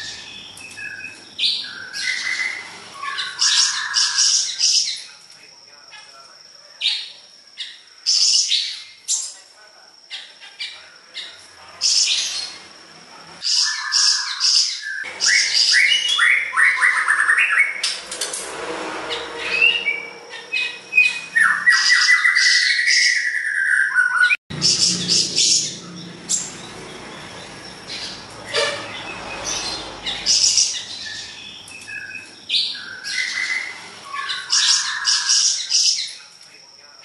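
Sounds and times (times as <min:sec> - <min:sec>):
songbird chirping and trilling: 0:00.0 - 0:37.0.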